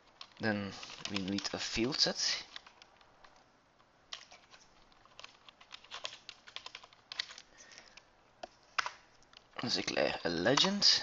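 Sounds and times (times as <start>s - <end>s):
faint keyboard typing: 0.0s - 11.0s.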